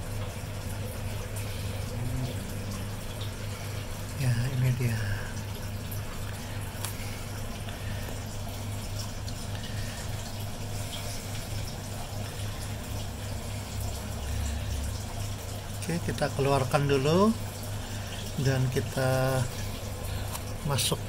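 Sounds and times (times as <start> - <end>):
low pump hum: 0.0 - 21.0
water running: 0.0 - 21.0.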